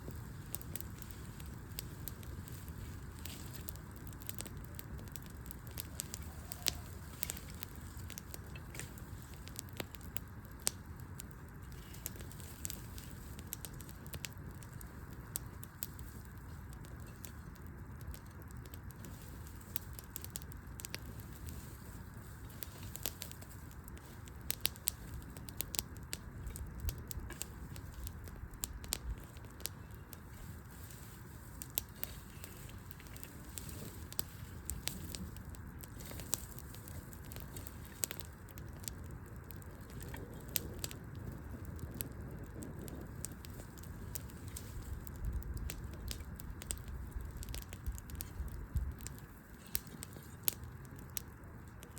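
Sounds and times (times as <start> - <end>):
campfire crackling: 0.0 - 51.9.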